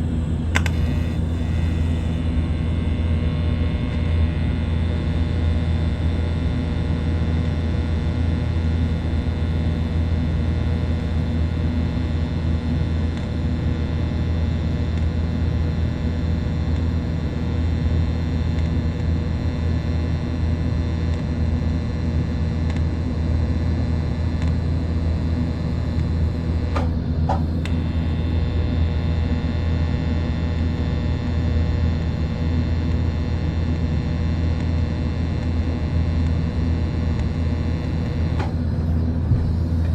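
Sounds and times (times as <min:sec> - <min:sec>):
welding machine hum: 0:00.0 - 0:39.9.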